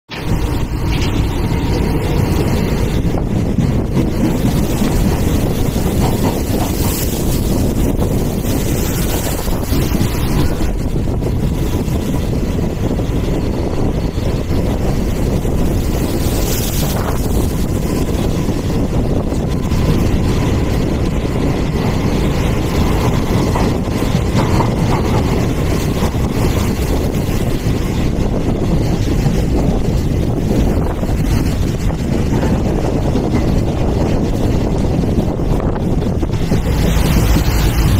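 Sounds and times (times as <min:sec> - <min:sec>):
moving train running noise: 0:00.1 - 0:37.9
wind buffeting microphone: 0:00.1 - 0:37.9.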